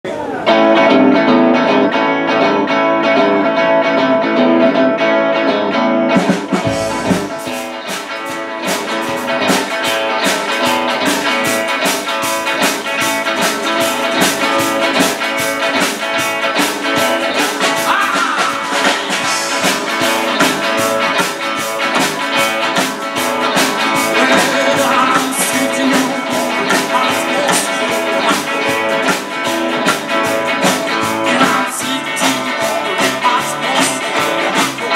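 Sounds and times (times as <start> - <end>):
guitars playing: 0.1 - 34.9
drum kit beat: 6.1 - 34.9.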